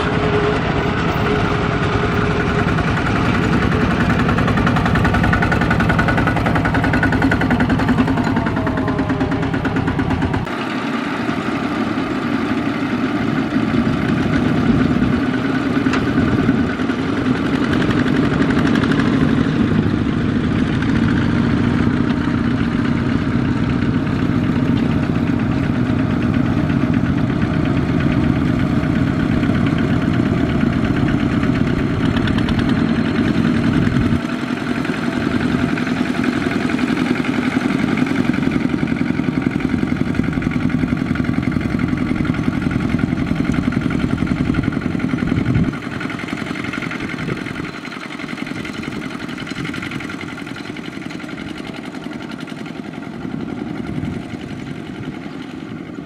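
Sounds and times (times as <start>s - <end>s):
diesel tractor engines chugging: 0.0s - 56.0s.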